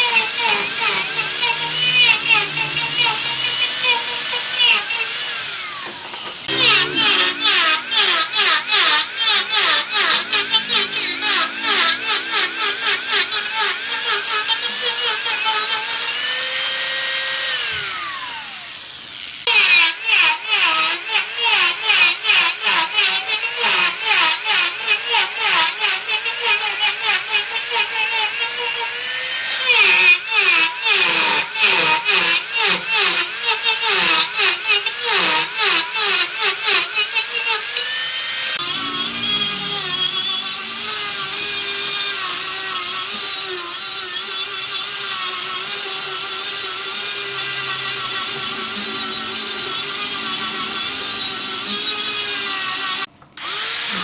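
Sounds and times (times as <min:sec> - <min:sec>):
wood lathe motor running: 0:00.0 - 0:54.0.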